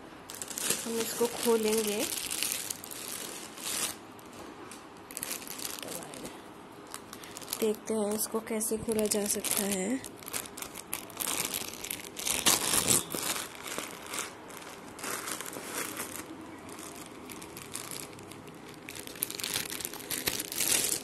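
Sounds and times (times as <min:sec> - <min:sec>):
plastic mailer crinkling: 0:00.3 - 0:04.0, 0:05.1 - 0:21.0.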